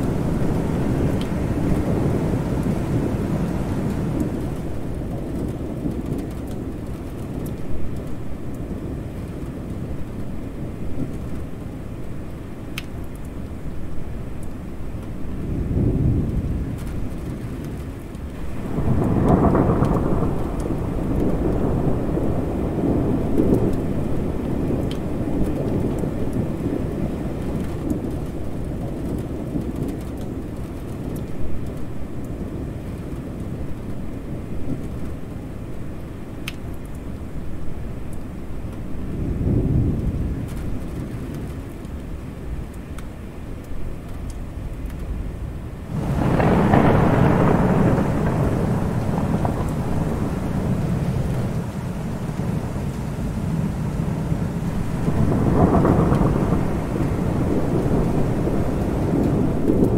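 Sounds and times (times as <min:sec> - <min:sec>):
thunder rumbling: 0:00.0 - 0:11.7, 0:15.4 - 0:36.0, 0:38.6 - 0:42.7, 0:43.9 - 0:59.9
steady rain: 0:00.0 - 0:59.9.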